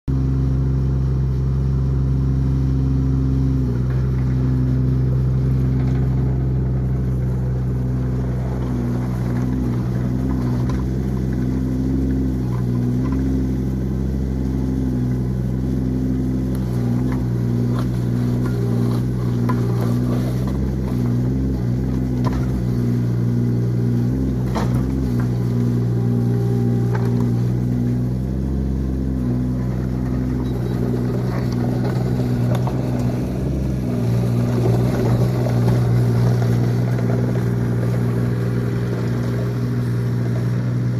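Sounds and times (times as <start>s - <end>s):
excavator diesel engine running: 0.1s - 40.9s.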